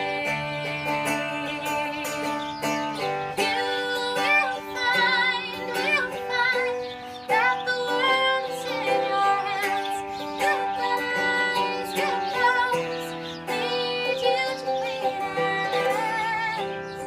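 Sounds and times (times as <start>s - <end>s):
plucked string accompaniment: 0.0s - 17.0s
woman singing with vibrato: 0.0s - 17.0s.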